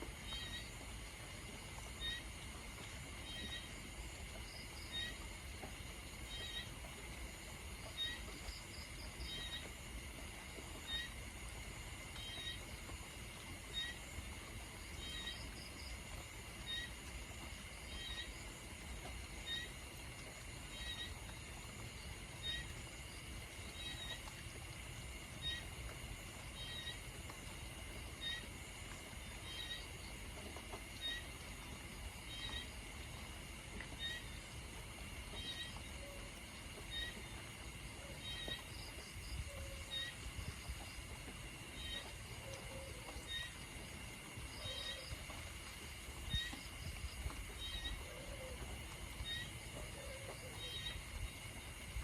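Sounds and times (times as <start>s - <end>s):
rain hiss: 0.0s - 52.0s.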